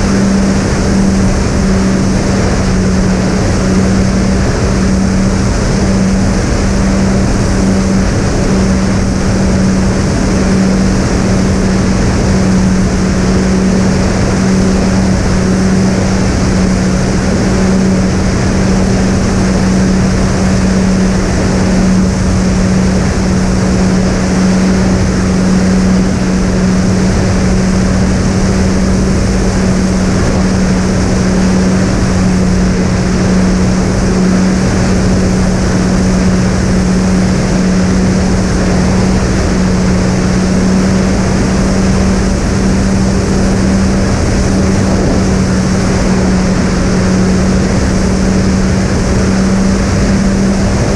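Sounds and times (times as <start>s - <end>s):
electric motors droning: 0.0s - 50.9s
rush of wind: 0.0s - 50.9s.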